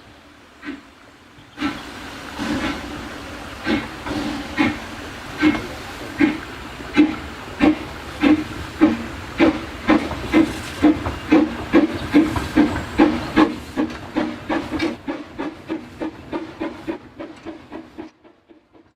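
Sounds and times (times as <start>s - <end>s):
steam locomotive chuffing: 0.0s - 18.9s.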